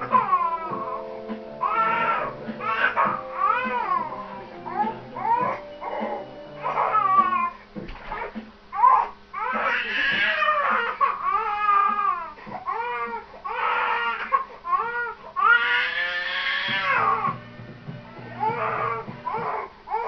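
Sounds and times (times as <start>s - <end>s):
baby crying: 0.0s - 17.4s, 18.3s - 20.0s.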